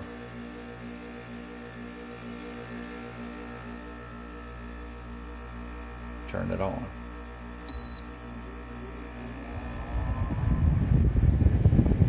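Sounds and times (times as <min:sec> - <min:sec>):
air conditioner humming with pulsing beat: 0:00.0 - 0:12.0.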